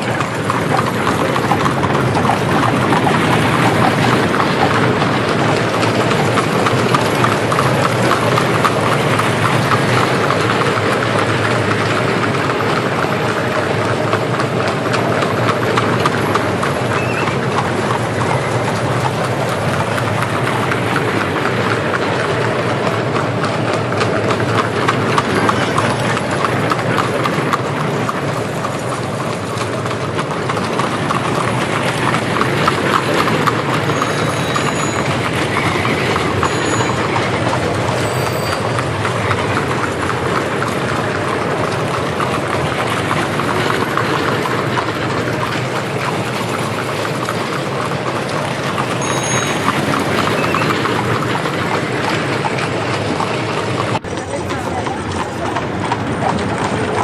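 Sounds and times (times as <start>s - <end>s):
horses' hooves clip-clopping: 0.0s - 57.0s
rumbling street noise: 0.0s - 57.0s.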